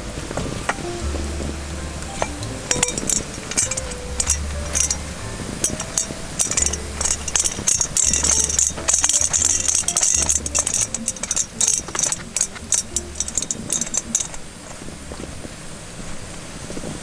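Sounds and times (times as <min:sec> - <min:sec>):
background music with bass: 0:00.0 - 0:13.8
shaker rattle: 0:00.0 - 0:15.4.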